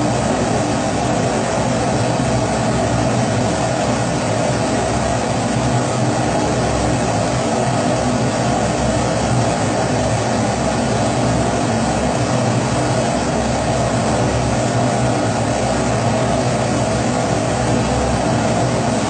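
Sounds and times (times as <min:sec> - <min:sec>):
pressure stove burner roaring: 0:00.0 - 0:19.0.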